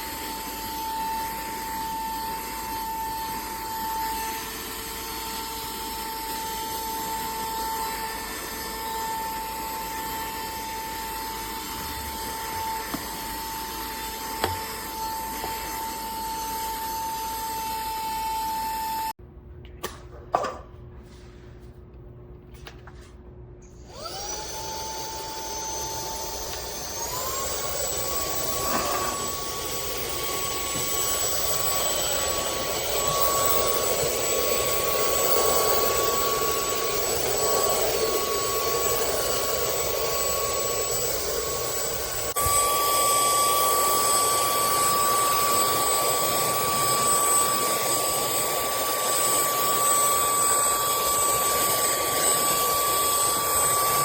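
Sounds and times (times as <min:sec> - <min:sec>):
handheld vacuum motor whine: 0:00.0 - 0:19.2, 0:23.7 - 0:54.0.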